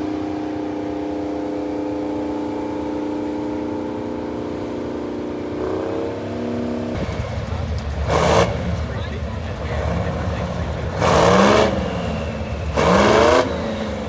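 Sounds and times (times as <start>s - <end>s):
diesel tractor engine under load: 0.0s - 14.0s.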